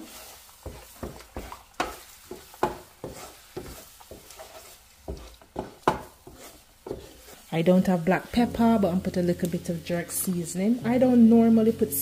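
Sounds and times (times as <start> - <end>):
eggs sizzling: 0.0 - 12.0
wooden spatula scraping a pan: 0.0 - 12.0.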